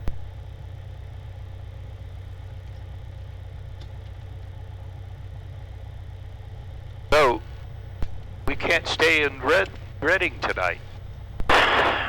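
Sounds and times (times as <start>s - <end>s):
plane piston engine idling: 0.0s - 12.0s.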